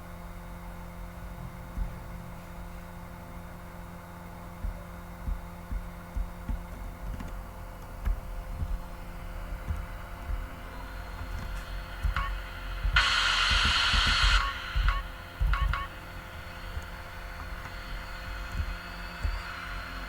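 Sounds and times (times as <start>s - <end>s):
steady mechanical hum: 0.0s - 20.0s
low thumps: 1.0s - 20.0s.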